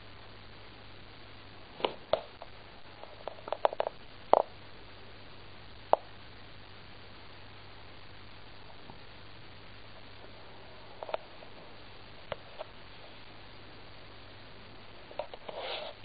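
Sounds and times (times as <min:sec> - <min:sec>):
faint steady hiss: 0:00.0 - 0:16.0
low hum: 0:00.0 - 0:16.0.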